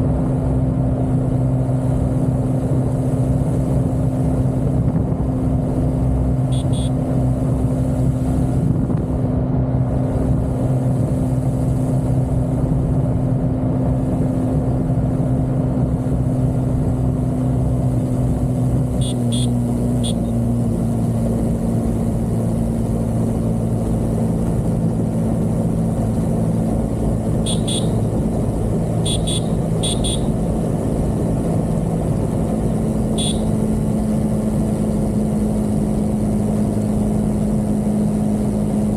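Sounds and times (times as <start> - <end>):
road noise: 0.0 - 38.9
vehicle engine cruising: 0.0 - 38.9.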